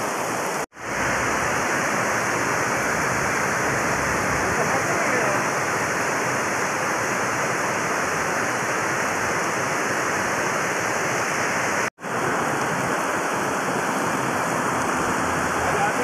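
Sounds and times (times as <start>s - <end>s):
heavy rain on floodwater: 0.0s - 16.0s.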